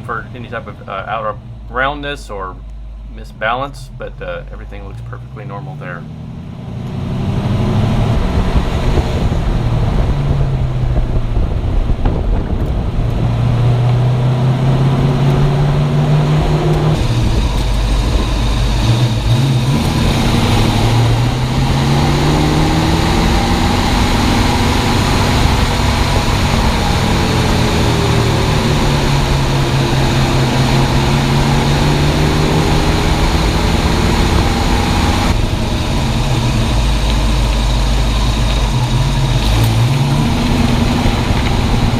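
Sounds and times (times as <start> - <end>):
car engine: 0.0 - 41.9
tyre and road noise: 0.0 - 41.9.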